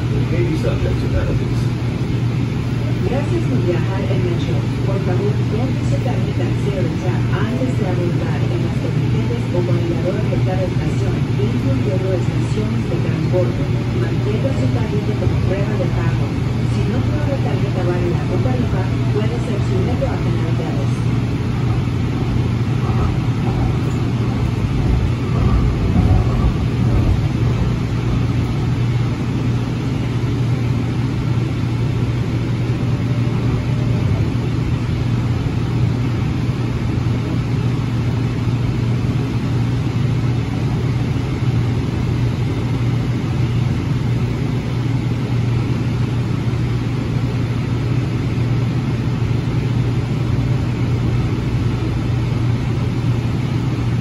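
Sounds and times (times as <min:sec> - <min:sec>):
continuous low hum: 0:00.0 - 0:54.0
rail car running noise: 0:00.0 - 0:54.0.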